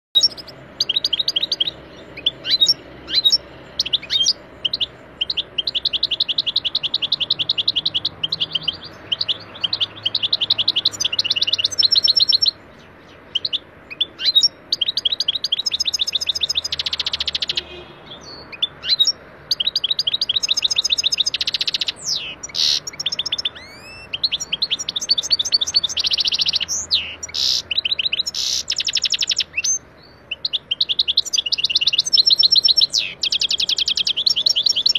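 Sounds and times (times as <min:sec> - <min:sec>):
goldfinch singing: 0:00.2 - 0:34.9.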